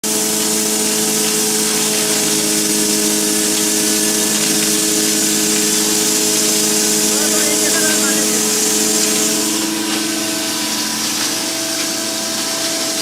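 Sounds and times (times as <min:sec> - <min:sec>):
grinding machine running: 0:00.0 - 0:13.0.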